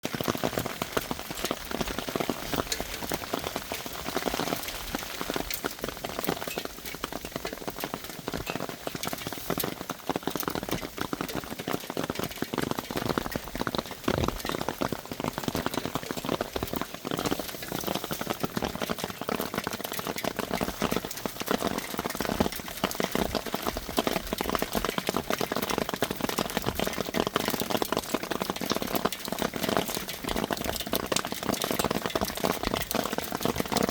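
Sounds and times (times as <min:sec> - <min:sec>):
hail falling: 0:00.0 - 0:33.9.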